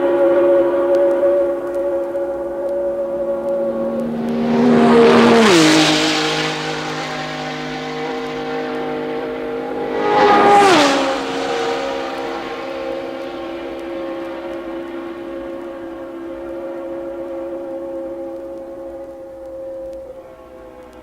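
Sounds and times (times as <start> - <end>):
racing cars passing at speed: 0.0 - 21.0.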